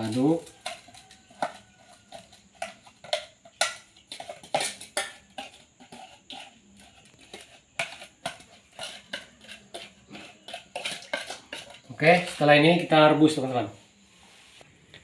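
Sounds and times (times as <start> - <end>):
spoon clinking and scraping bowl: 0.0 - 13.1.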